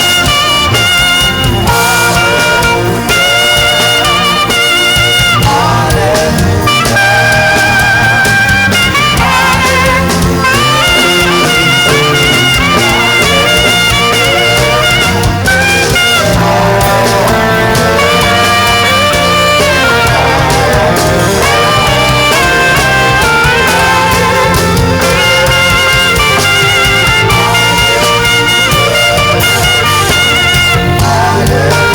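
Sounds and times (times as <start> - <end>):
bass and percussion: 0.0 - 31.9
saxophone melody: 0.0 - 31.9.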